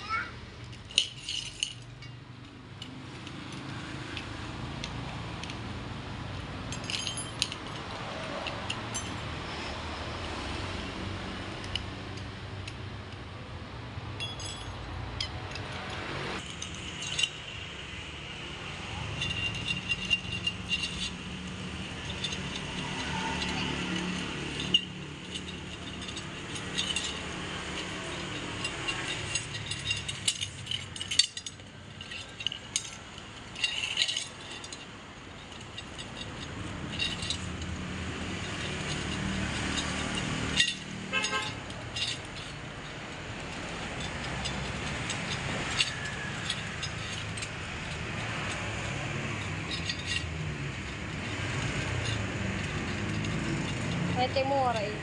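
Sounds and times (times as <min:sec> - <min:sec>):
metal spokes clinking: 0:00.0 - 0:55.0.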